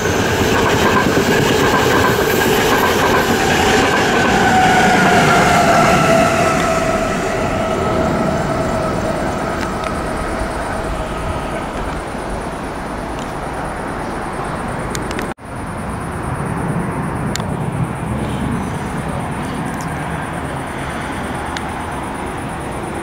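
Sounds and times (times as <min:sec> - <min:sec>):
electric locomotive whine: 0:00.0 - 0:23.0.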